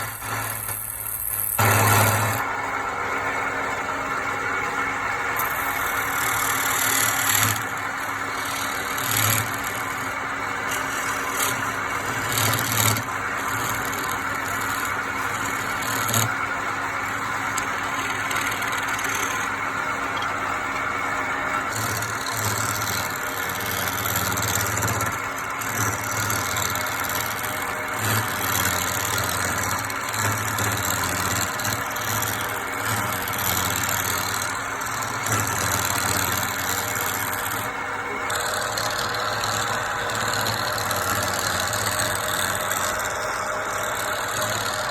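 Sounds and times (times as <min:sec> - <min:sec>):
electric woodworking machine running: 0:00.0 - 0:44.9.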